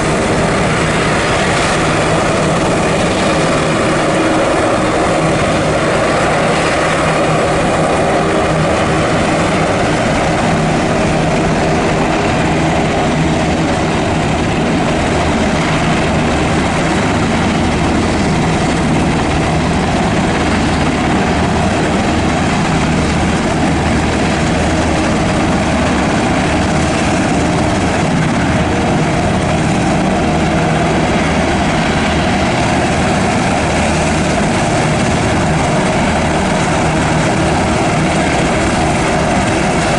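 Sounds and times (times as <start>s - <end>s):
helicopter turbine and rotor noise: 0.0s - 39.9s.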